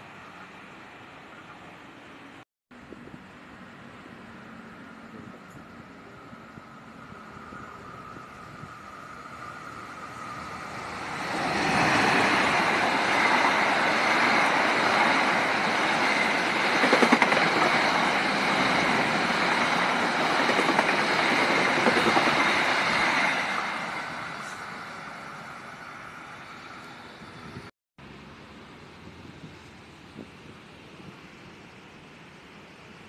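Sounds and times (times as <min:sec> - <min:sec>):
train passing: 0:00.0 - 0:33.0
wheel and rail noise: 0:00.0 - 0:33.0.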